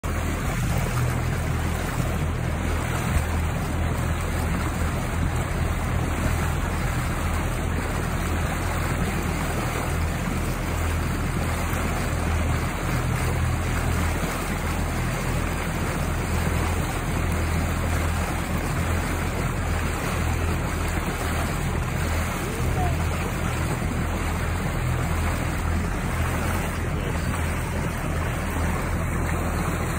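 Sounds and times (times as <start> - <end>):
low hum: 0.0 - 29.9.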